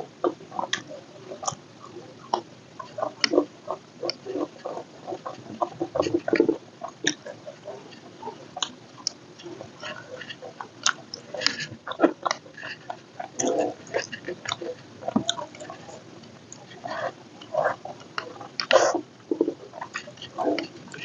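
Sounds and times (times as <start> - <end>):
crunchy mouth clicks: 0.3 - 21.0.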